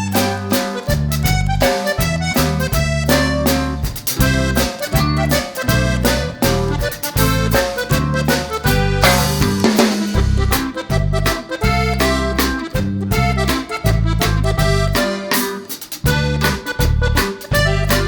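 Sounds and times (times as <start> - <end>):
bass and drum beat: 0.0 - 18.0
reedy melody: 0.0 - 18.0.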